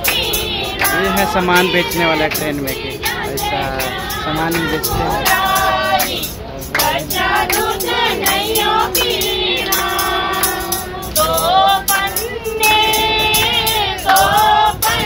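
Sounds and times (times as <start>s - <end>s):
rhythmic hand-clapping: 0.0s - 15.0s
women singing together: 0.0s - 15.0s.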